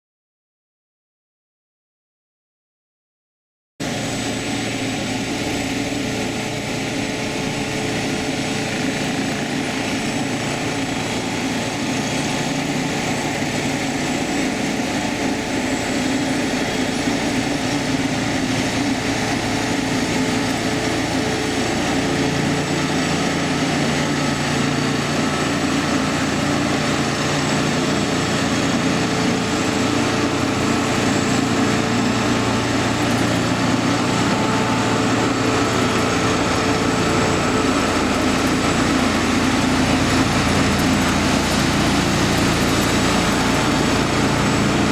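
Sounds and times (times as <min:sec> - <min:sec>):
track repair machine engines droning: 0:03.8 - 0:44.9.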